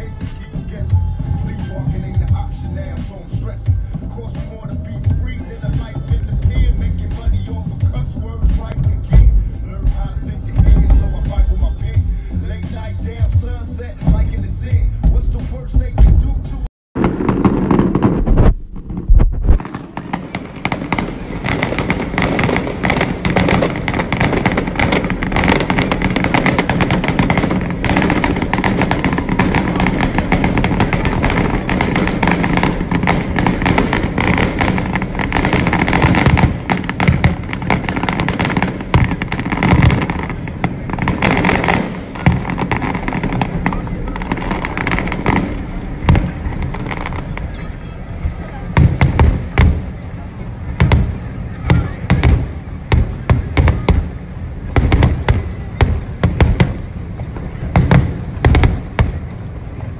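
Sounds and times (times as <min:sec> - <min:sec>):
fireworks cracking and banging: 0:00.0 - 0:59.9.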